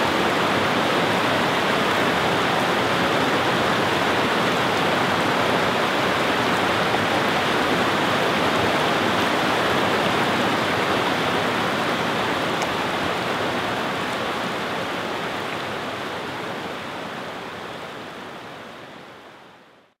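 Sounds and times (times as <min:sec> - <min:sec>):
stream rushing over rocks: 0:00.0 - 0:19.9.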